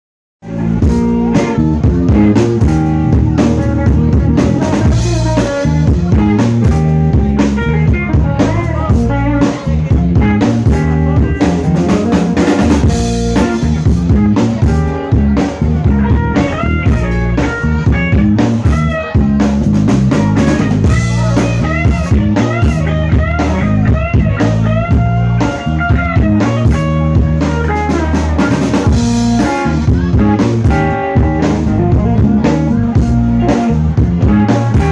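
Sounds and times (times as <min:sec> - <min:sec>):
bass guitar: 0:00.4 - 0:34.9
drum kit: 0:00.4 - 0:34.9
electric guitar lead with bent notes: 0:00.4 - 0:34.9.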